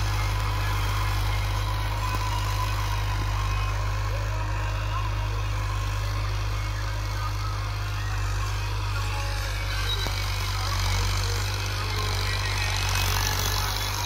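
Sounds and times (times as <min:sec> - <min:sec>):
tractor engine running under load: 0:00.0 - 0:14.0.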